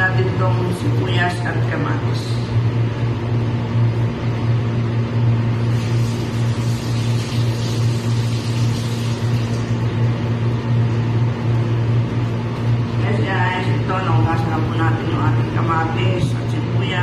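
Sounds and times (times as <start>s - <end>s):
loud low hum: 0.0s - 17.0s.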